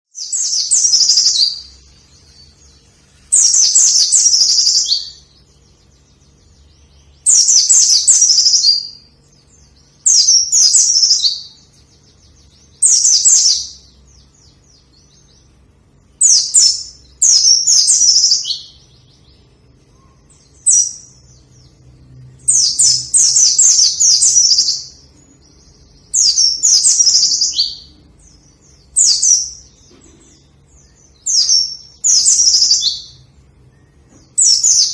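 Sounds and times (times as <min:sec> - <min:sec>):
bird high-pitched chattering song: 0:00.2 - 0:34.9.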